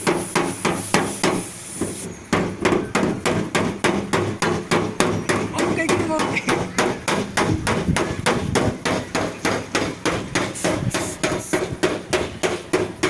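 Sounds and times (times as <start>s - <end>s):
hammer on sheet metal: 0.0s - 1.5s, 2.3s - 13.0s.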